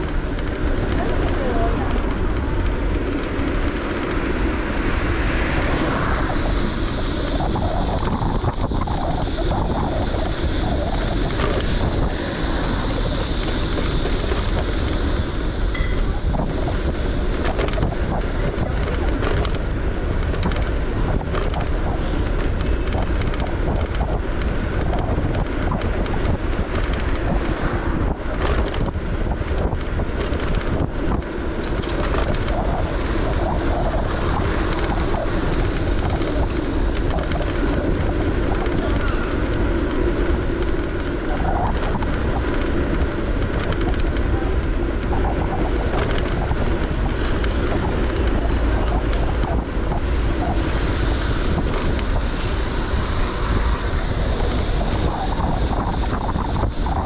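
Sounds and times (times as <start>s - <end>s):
deep road rumble: 0.0s - 57.0s
wind noise on microphone: 0.0s - 57.0s.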